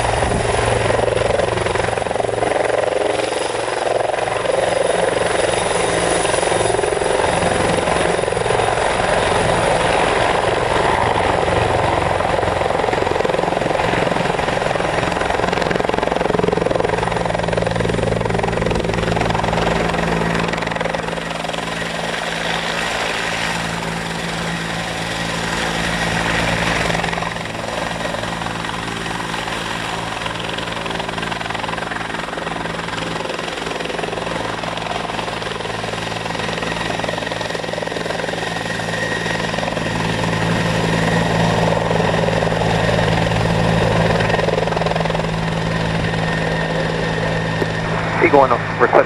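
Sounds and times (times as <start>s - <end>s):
helicopter rotor beat: 0.0s - 49.0s
helicopter turbine whine: 0.0s - 49.0s.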